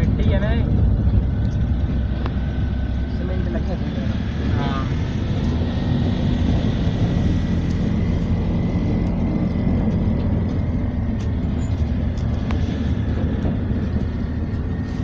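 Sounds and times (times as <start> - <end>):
road and tyre rumble: 0.0 - 15.0
vehicle engine hum: 0.0 - 15.0.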